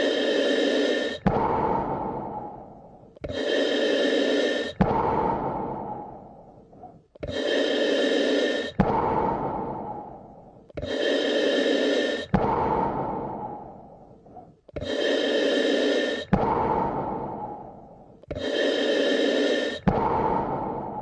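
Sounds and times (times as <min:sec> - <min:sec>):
deep human breathing: 0:00.0 - 0:21.0.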